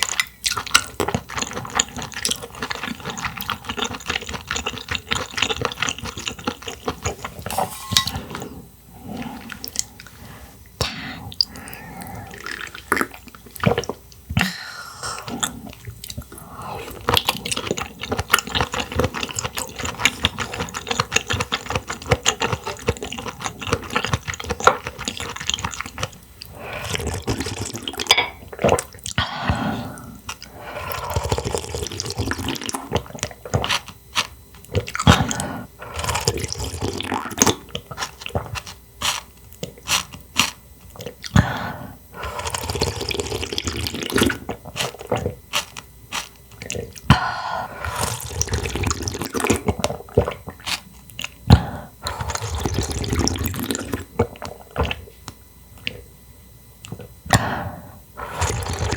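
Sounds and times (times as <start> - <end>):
wet chewing and slurping: 0.0 - 14.3, 15.2 - 56.1, 58.2 - 58.9.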